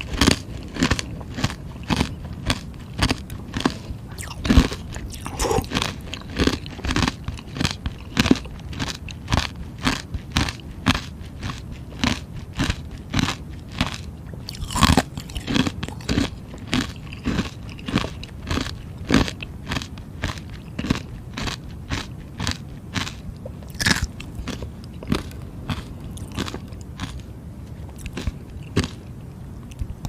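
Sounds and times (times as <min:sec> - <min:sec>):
ice being chewed: 0:00.0 - 0:27.3, 0:27.9 - 0:29.9.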